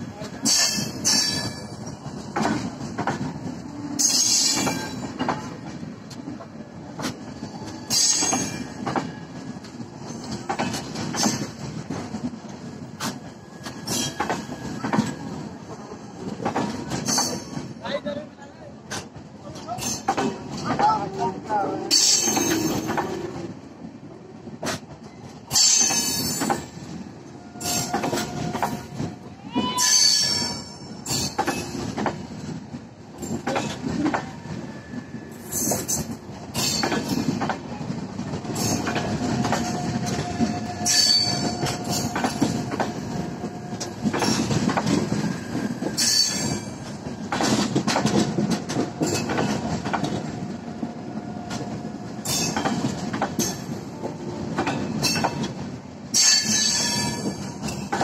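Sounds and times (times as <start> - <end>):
train wheels clattering over rail joints: 0.0 - 18.2, 18.8 - 21.2, 21.9 - 58.0.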